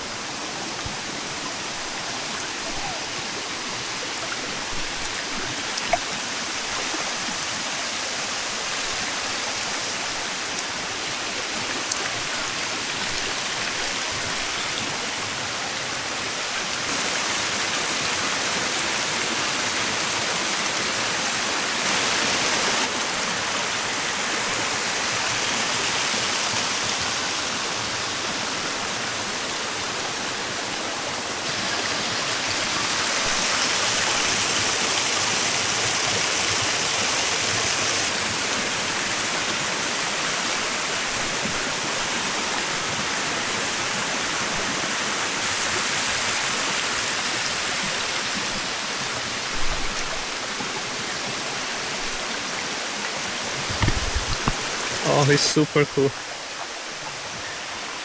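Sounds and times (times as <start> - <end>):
waterfall rushing: 0.0 - 29.4, 30.0 - 58.0.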